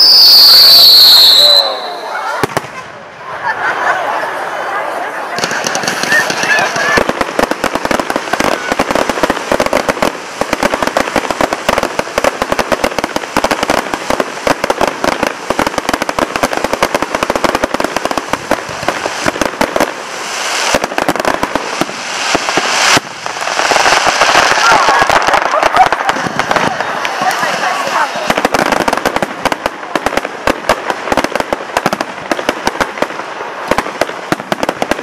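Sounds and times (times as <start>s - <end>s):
firework hiss: 0.0s - 2.8s, 5.4s - 35.0s
fireworks crackling and popping: 0.0s - 3.6s, 5.3s - 35.0s.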